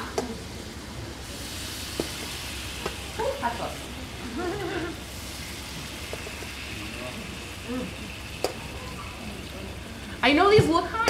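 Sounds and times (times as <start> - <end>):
butter sizzling in a skillet: 0.1 - 11.0.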